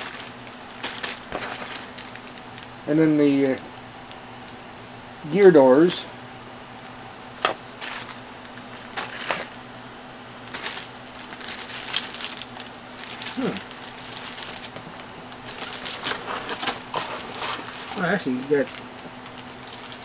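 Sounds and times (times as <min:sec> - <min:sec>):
plastic bags crinkling: 0:00.0 - 0:03.6, 0:06.8 - 0:09.6, 0:10.4 - 0:20.0
faint steady hum: 0:00.0 - 0:20.0.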